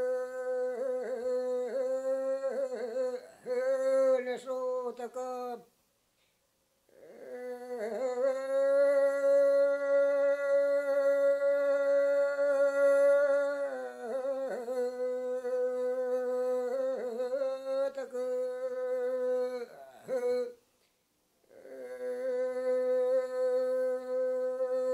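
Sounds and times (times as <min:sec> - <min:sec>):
person singing unaccompanied: 0:00.0 - 0:05.7, 0:06.9 - 0:20.6, 0:21.4 - 0:24.9.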